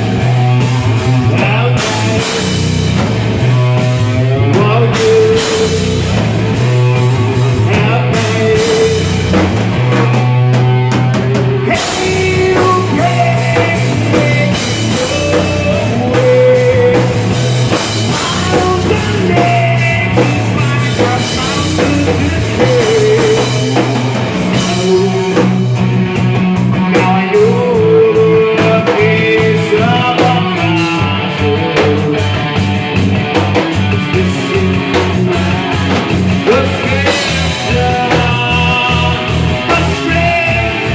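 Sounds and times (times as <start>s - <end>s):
person singing: 0.0s - 26.0s, 26.7s - 32.6s, 33.2s - 40.9s
drum kit: 0.0s - 40.9s
electric guitar: 0.0s - 40.9s.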